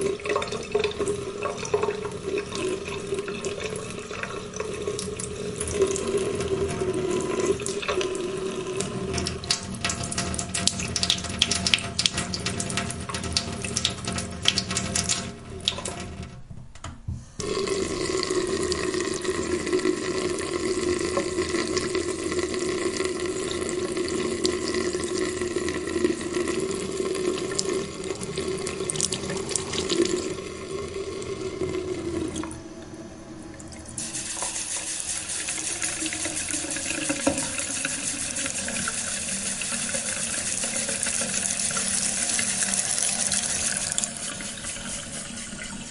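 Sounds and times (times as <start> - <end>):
water running: 0.0 - 16.4, 17.4 - 45.9.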